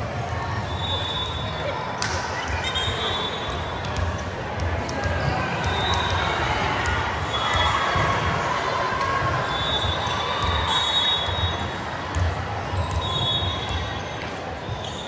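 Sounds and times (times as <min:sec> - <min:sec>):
crowd chatter: 0:00.0 - 0:15.0.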